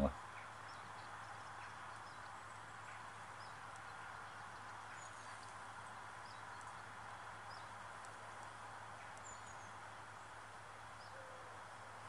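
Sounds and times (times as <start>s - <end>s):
faint bird chirps: 0.0s - 12.0s
low background hiss: 0.0s - 12.0s.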